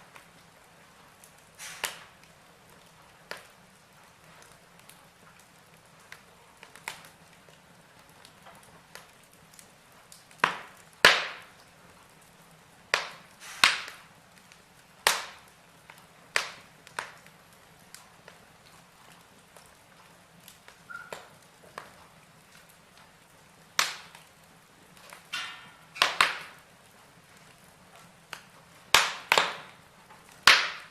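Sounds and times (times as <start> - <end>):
faint steady hiss: 0.0 - 30.9
fire crackling and popping: 0.0 - 30.9.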